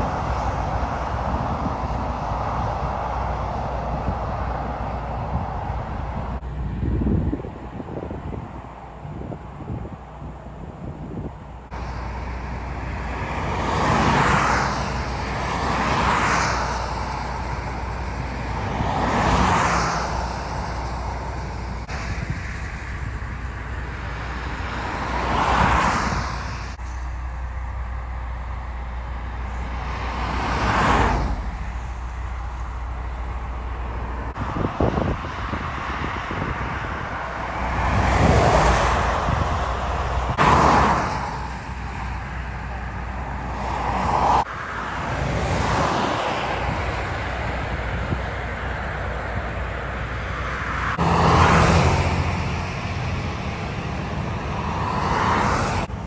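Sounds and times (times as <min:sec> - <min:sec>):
low traffic rumble: 0:00.0 - 0:56.0
vehicles passing close by: 0:00.0 - 0:56.0.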